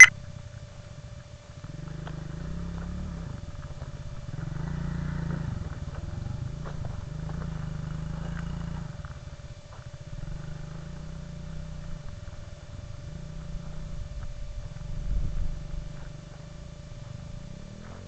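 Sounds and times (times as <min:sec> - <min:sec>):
off-road vehicle engine pulsing: 0:00.0 - 0:18.0.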